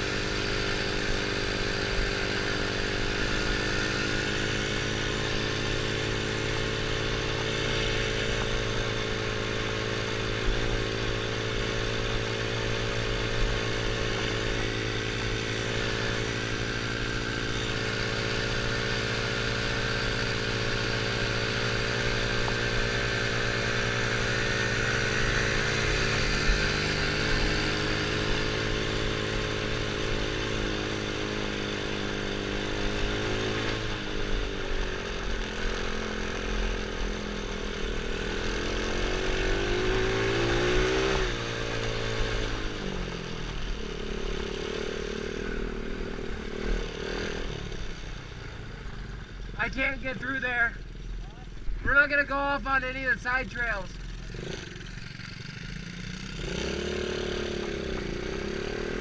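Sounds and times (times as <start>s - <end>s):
quad engine running: 0.0s - 59.0s.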